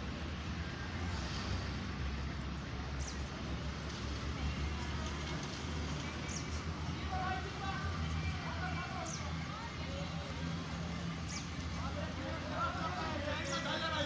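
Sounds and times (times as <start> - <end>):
faint distant voices: 0.3 - 14.0.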